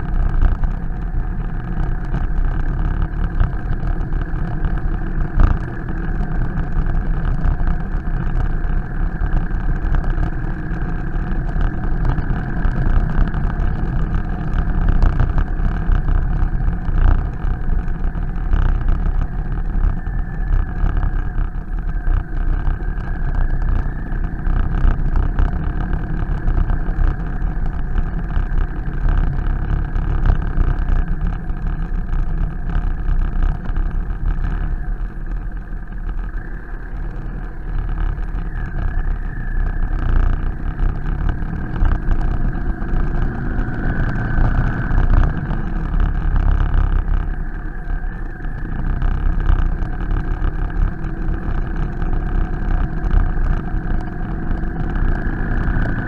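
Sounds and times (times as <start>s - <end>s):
motorcycle engine running: 0.0s - 56.0s
tyres rumbling on cobbles: 0.0s - 56.0s.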